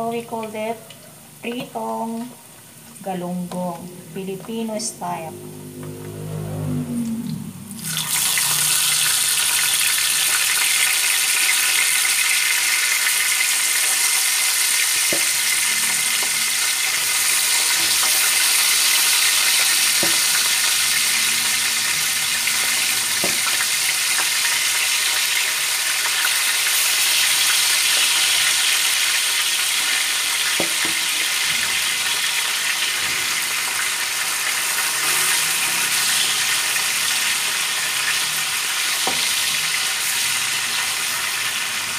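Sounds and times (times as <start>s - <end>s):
oil sizzling loudly: 7.7s - 41.9s.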